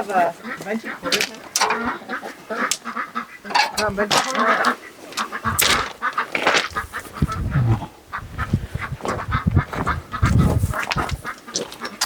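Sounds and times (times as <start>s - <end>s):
waterfowl calling: 0.0s - 12.0s.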